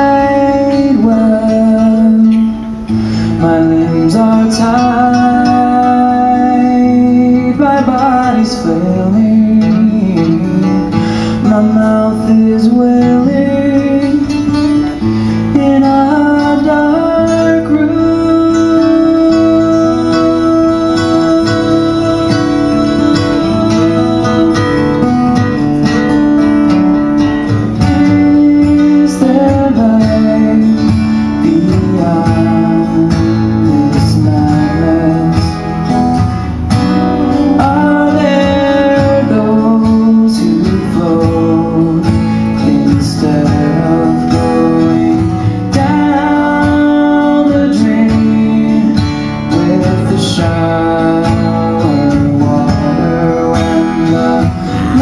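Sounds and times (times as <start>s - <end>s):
acoustic guitar playing: 0.0s - 55.0s
man singing into a microphone: 0.0s - 55.0s.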